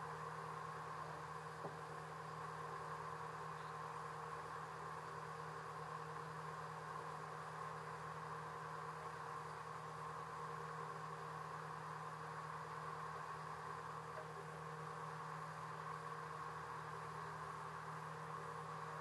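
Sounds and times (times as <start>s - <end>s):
faint motor hum: 0.0s - 19.0s.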